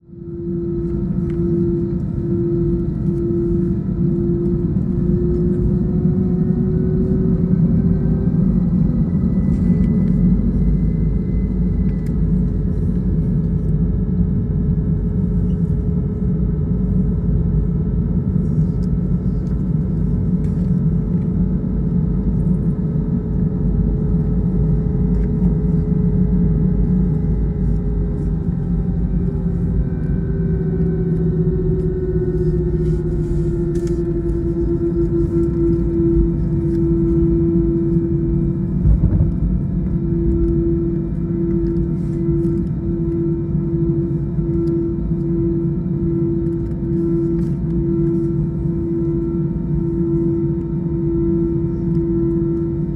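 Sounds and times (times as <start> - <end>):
jet engine rumble in cabin: 0.0 - 52.9.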